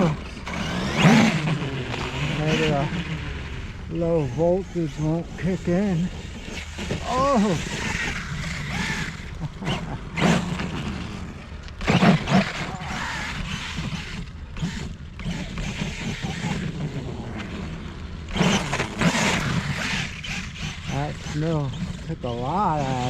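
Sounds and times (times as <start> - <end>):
rc truck motor revving: 0.0 - 23.0
tires churning through snow: 0.0 - 23.0.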